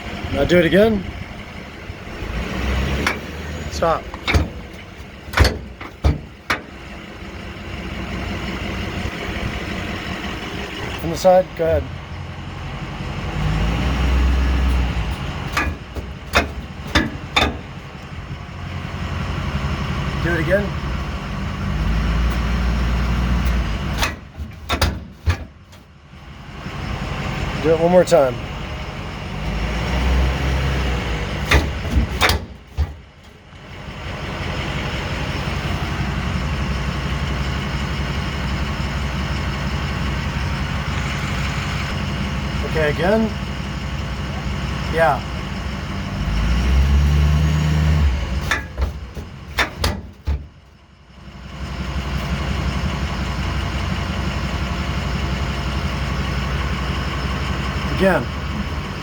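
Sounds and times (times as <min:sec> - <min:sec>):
diesel truck engine rumble: 0:00.0 - 0:59.0
trailer hitch popping: 0:00.0 - 0:59.0.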